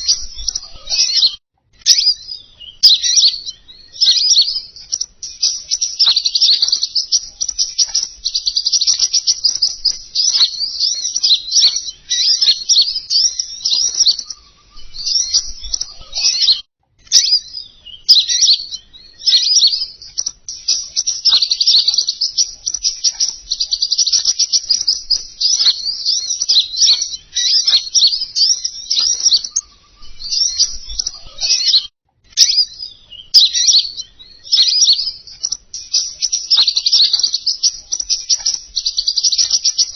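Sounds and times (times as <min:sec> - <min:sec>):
bird twittering and chirping: 0:00.0 - 0:39.9.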